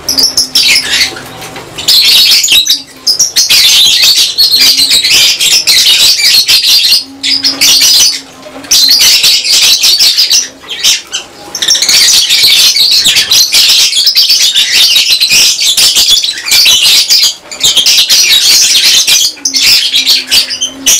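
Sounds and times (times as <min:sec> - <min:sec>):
lovebirds chirping and squawking: 0:00.0 - 0:20.9.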